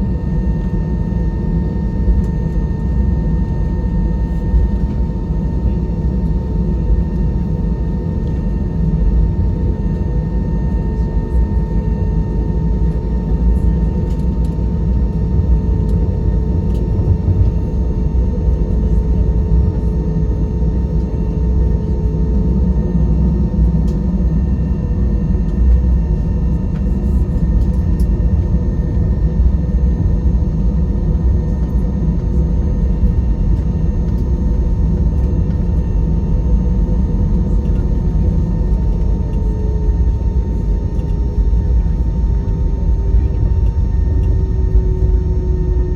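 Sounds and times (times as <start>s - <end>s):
jet engines cabin rumble: 0.0s - 45.9s.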